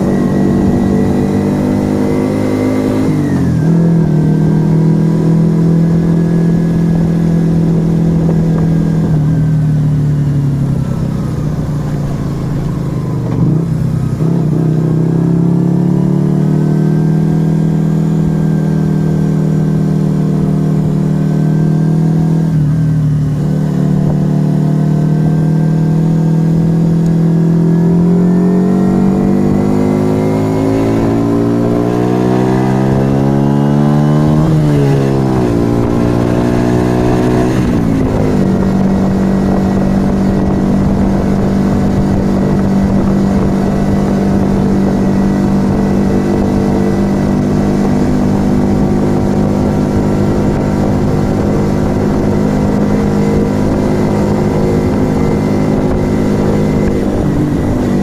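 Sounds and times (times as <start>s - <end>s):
low wind rumble: 0.0s - 58.0s
motorcycle engine accelerating: 0.0s - 58.0s.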